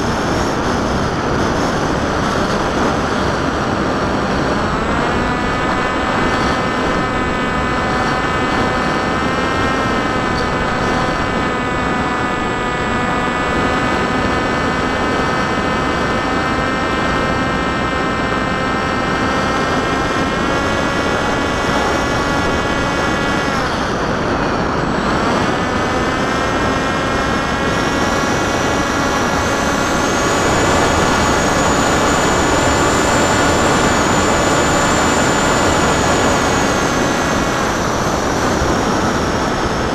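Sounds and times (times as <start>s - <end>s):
electric motor and propeller whining: 0.0s - 39.9s
wind rushing past microphone: 0.0s - 39.9s.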